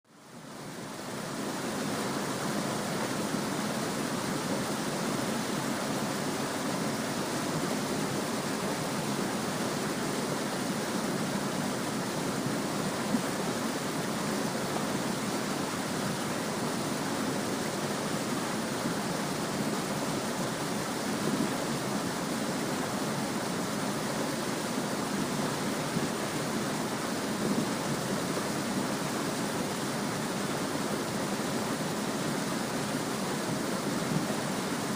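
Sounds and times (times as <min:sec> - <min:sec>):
stream babbling over rocks: 0:00.1 - 0:34.9.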